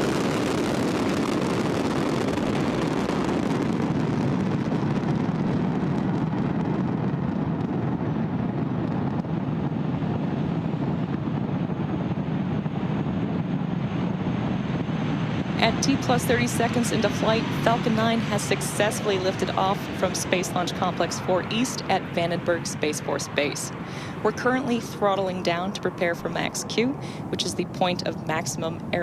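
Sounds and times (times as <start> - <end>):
rocket engine rumble: 0.0 - 29.0.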